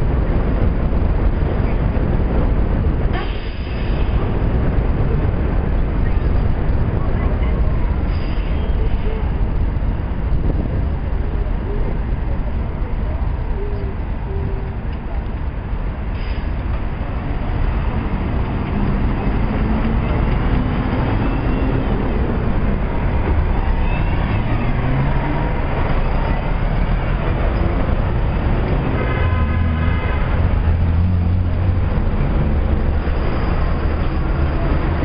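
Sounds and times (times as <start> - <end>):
bus diesel engine accelerating: 0.0 - 35.0
street traffic: 0.0 - 35.0.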